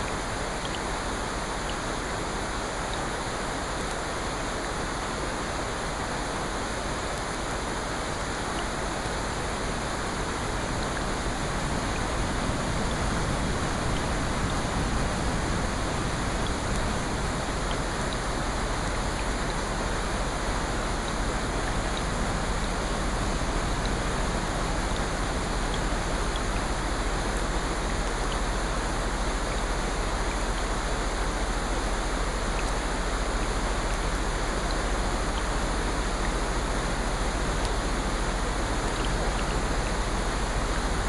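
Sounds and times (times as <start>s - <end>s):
rain-like water hiss: 0.0s - 41.0s.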